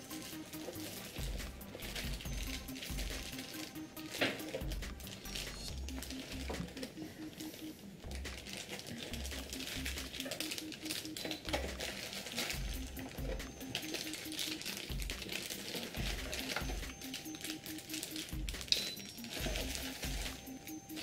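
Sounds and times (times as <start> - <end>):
background music with bass beat: 0.0 - 21.0
plastic bags crinkling: 0.0 - 21.0.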